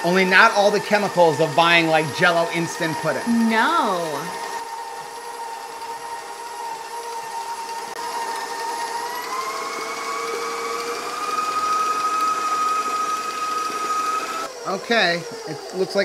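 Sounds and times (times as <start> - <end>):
stand mixer motor whining: 0.0 - 3.5, 4.1 - 16.0
beater working thick filling: 0.0 - 16.0.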